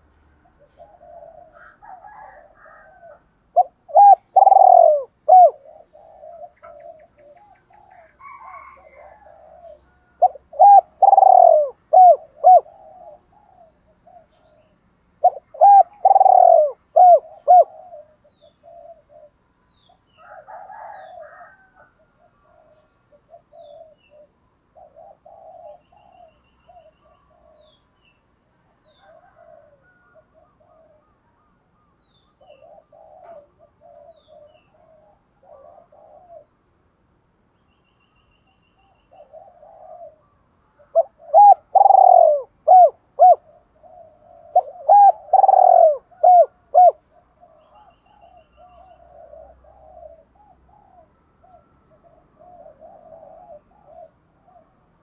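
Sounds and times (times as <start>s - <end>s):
dove cooing: 0.0s - 19.4s, 20.2s - 27.8s, 28.8s - 31.6s, 32.4s - 36.6s, 39.1s - 55.0s.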